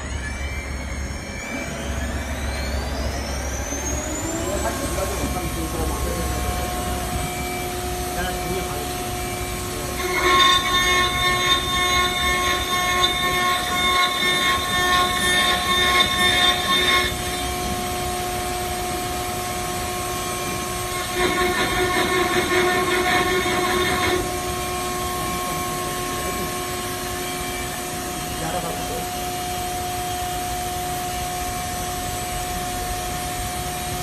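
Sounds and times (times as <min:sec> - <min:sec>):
end mill cutting wood: 0:00.0 - 0:30.4
router spindle whining: 0:00.0 - 0:34.0.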